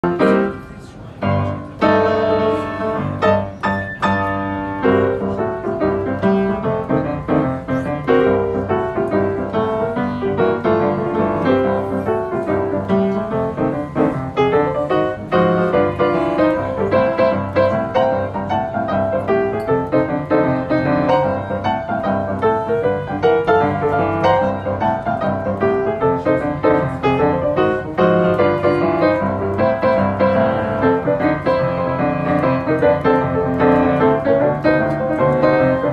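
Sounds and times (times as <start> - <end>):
boogie-woogie upright piano: 0.0 - 35.9.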